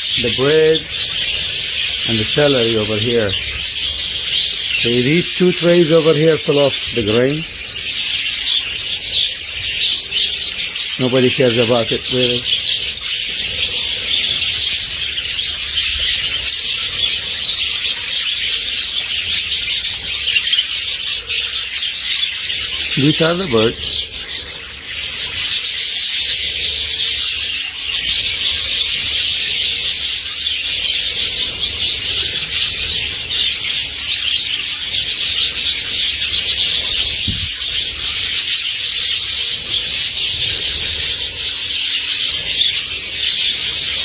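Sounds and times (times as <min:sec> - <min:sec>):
budgerigars chattering: 0:00.0 - 0:44.0.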